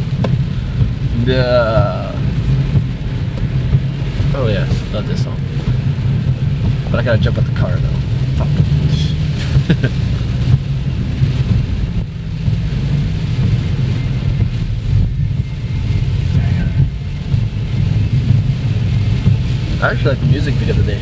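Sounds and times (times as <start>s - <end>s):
car engine and tyre noise: 0.0s - 21.0s
faint rain hiss: 0.0s - 21.0s.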